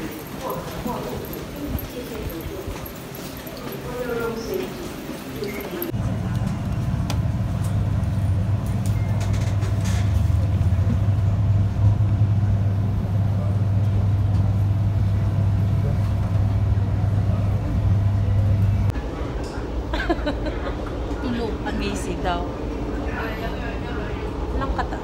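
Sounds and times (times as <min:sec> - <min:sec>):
subway train rumble inside carriage: 0:00.0 - 0:25.0.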